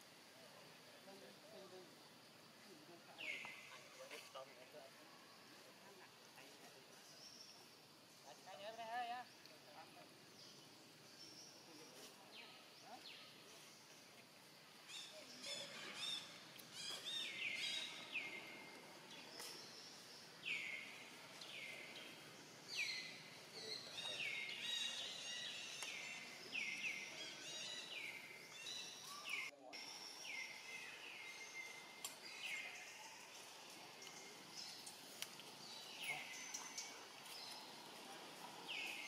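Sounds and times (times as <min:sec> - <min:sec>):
faint outdoor ambience: 0:00.0 - 0:39.0.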